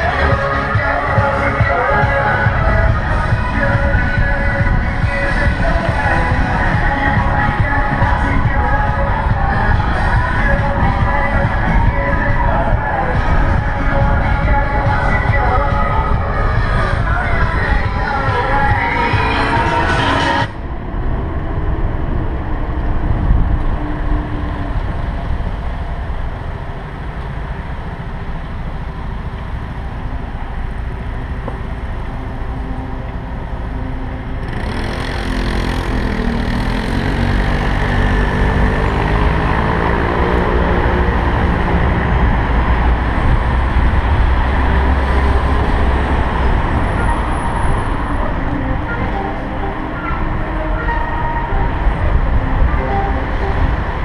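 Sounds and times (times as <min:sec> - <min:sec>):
passing vehicle engine drone: 0:00.0 - 0:54.0
road traffic: 0:00.0 - 0:54.0
wind rumble on microphone: 0:00.0 - 0:54.0.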